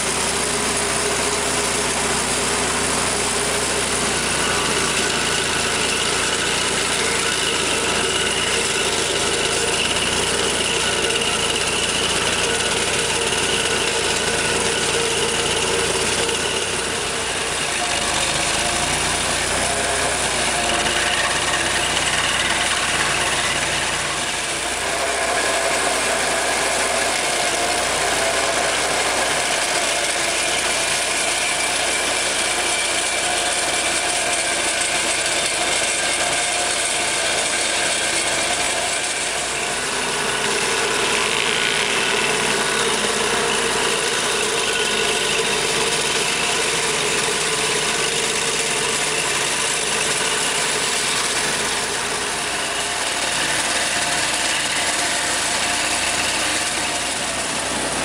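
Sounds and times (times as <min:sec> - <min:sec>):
stump grinder running: 0:00.0 - 0:58.0.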